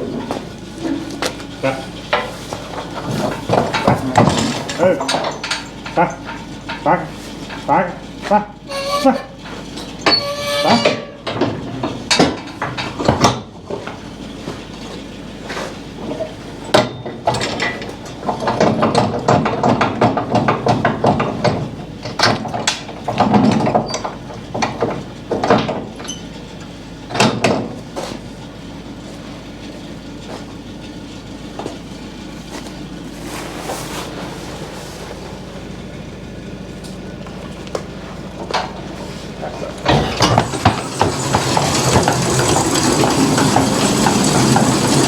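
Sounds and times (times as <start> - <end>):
farm equipment rattling and clanking: 0.0 - 45.0.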